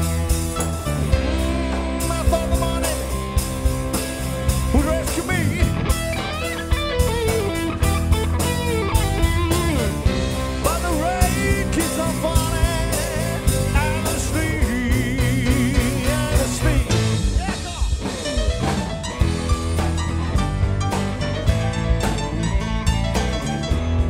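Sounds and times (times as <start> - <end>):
bending lead guitar line: 0.0 - 24.0
rock band playing live: 0.0 - 24.0.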